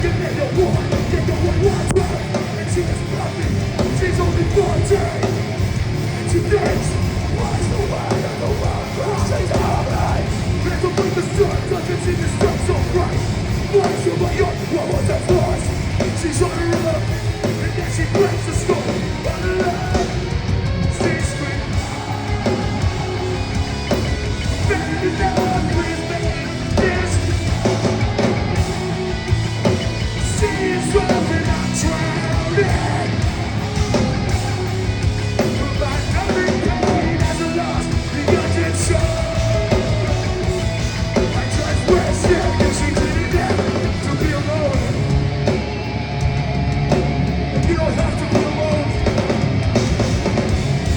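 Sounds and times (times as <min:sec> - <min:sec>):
shouted vocals: 0:00.0 - 0:46.0
bass guitar: 0:00.0 - 0:50.9
distorted guitars: 0:00.0 - 0:50.9
drums: 0:00.0 - 0:50.9.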